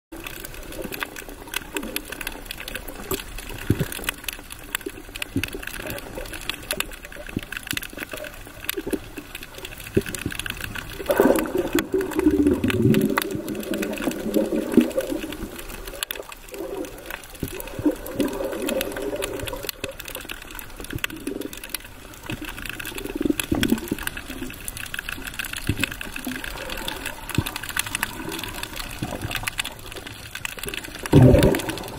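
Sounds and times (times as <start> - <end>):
crackle of small underwater clicks: 0.1 - 31.9
muffled rushing gurgling water: 0.2 - 31.9.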